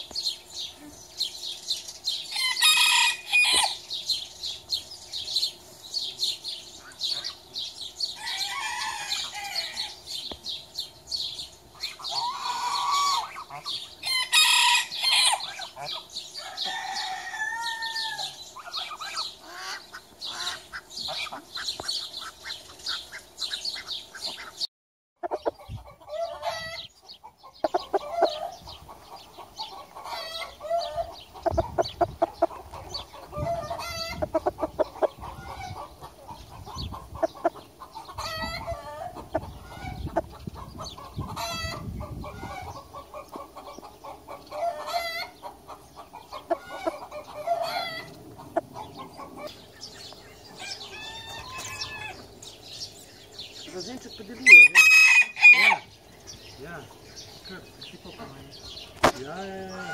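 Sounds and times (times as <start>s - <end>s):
chickens clucking: 0.0s - 17.0s, 18.4s - 59.9s
small birds chirping: 0.0s - 59.9s.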